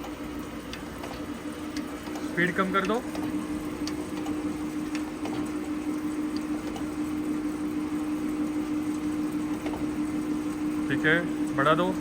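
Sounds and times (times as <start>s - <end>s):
hydraulic system humming: 0.0s - 12.0s.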